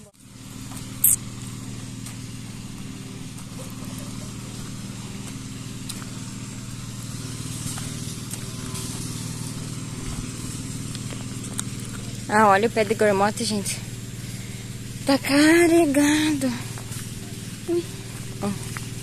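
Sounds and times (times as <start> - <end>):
tractor engine running steadily: 0.0 - 19.0.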